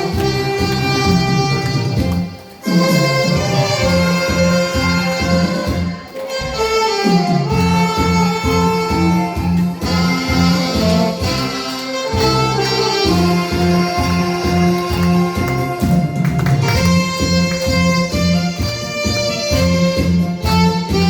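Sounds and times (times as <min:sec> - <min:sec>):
backing track bass beat: 0:00.0 - 0:21.0
saxophones playing melody: 0:00.0 - 0:21.0.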